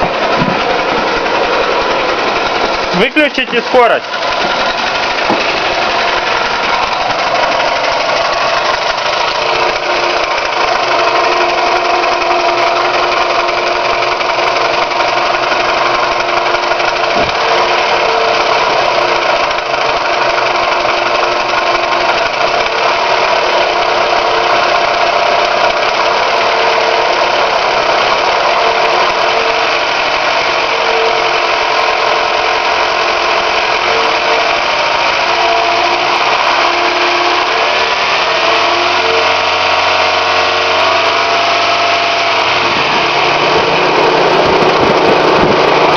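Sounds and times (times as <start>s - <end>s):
car engine idling: 0.0s - 45.9s
knocking inside engine: 0.0s - 45.9s.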